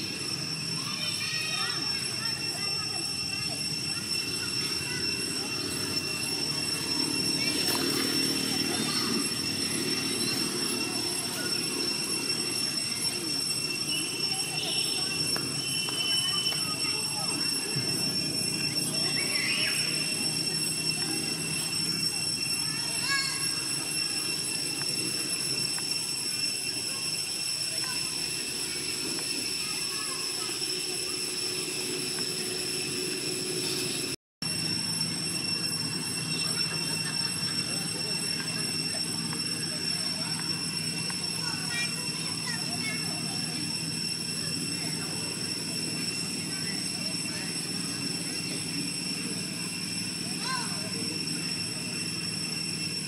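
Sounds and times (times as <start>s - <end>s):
cicadas droning: 0.0s - 53.0s
insect chorus buzzing: 0.0s - 53.0s.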